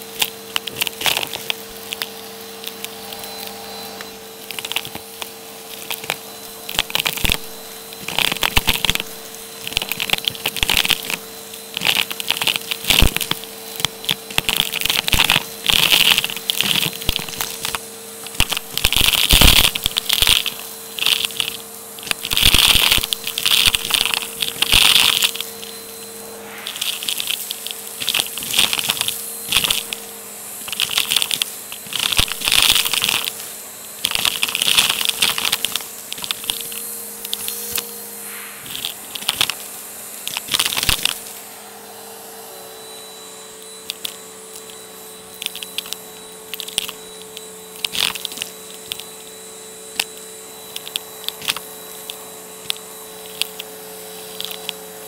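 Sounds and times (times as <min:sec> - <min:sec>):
debris crunching up vacuum hose: 0:00.0 - 0:55.0
vacuum cleaner motor hum: 0:00.0 - 0:55.0.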